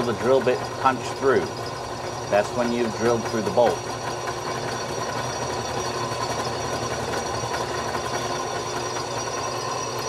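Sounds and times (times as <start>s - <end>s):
drill bit grinding metal: 0.0s - 10.0s
drill press motor hum: 0.0s - 10.0s.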